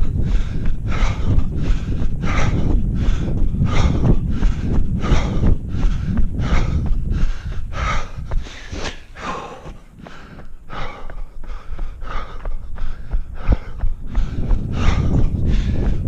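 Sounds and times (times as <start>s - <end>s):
runner breathing hard: 0.0s - 16.0s
wind rumbling on microphone: 0.0s - 16.0s.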